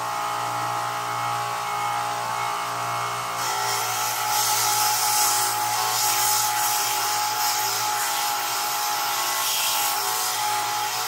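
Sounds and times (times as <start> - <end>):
belt grinder motor hum: 0.0 - 11.0.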